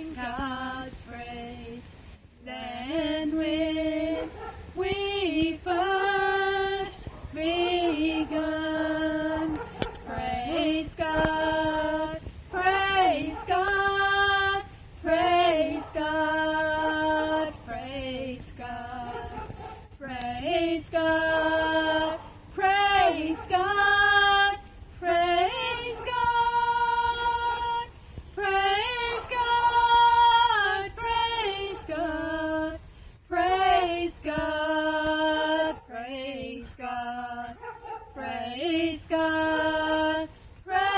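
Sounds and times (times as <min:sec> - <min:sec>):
woman singing a hymn: 0:00.0 - 0:40.9.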